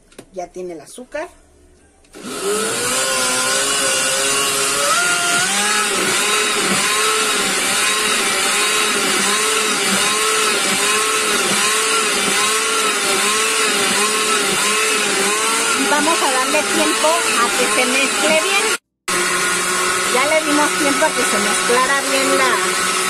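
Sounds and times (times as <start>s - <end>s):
blender motor wavering: 2.1s - 23.0s.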